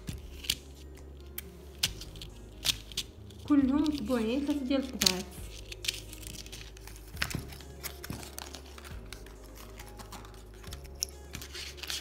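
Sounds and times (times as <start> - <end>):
paper cards rustling: 0.0 - 12.0.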